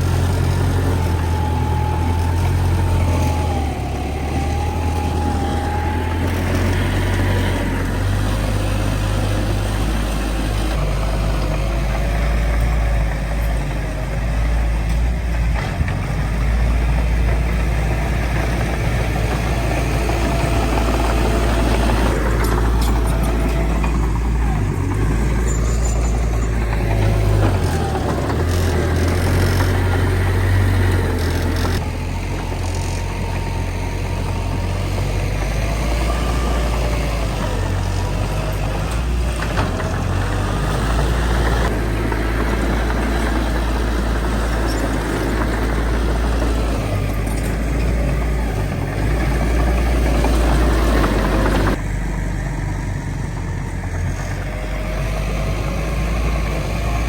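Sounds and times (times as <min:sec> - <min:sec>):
heavy diesel engine working: 0:00.0 - 0:57.0.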